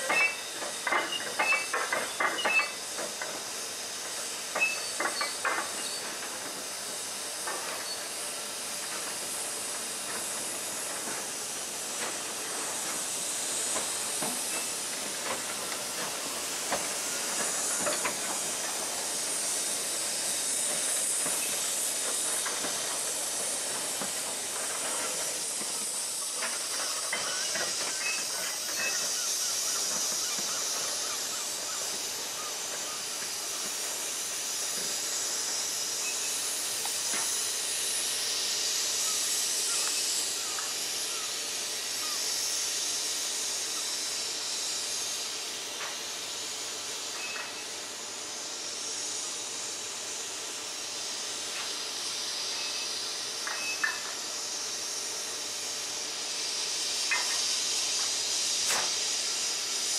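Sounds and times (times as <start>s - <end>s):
steam hissing: 0.0s - 59.9s.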